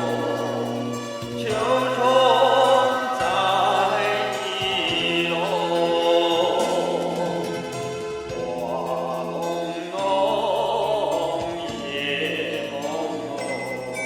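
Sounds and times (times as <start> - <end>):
sung melody with vibrato: 0.0 - 14.0.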